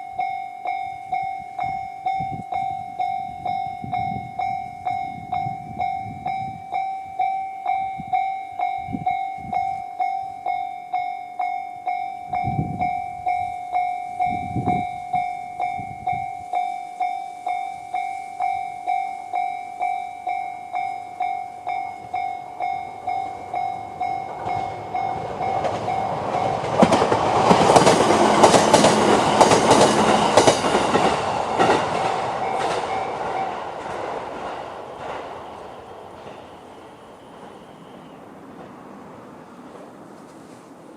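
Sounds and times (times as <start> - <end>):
level crossing alarm ringing: 0.0 - 38.2
passing electric train: 0.0 - 40.9.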